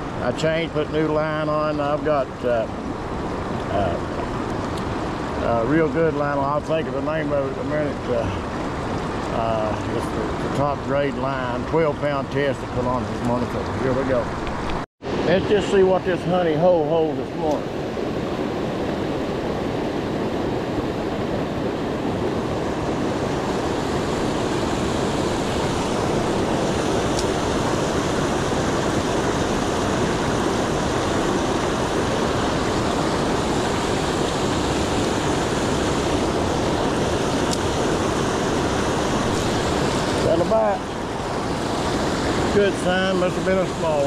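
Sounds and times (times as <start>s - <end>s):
river water rushing over rocks: 1.0s - 44.0s.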